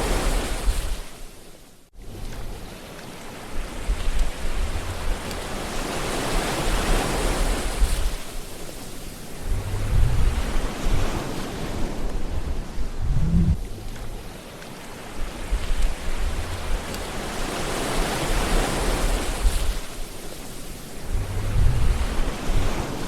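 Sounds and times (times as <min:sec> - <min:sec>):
ocean waves surging: 0:00.0 - 0:01.3, 0:02.0 - 0:23.0.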